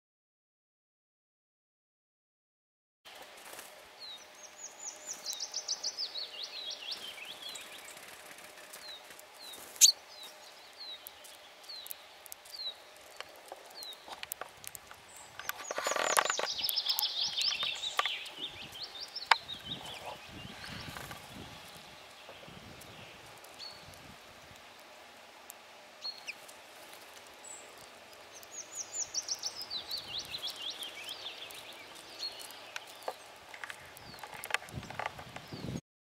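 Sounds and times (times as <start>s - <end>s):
chaffinch song: 3.1s - 35.8s.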